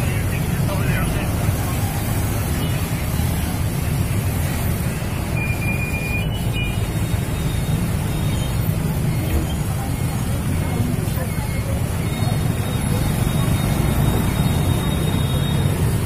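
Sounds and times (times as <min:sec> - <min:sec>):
traffic idling rumble: 0:00.0 - 0:16.0.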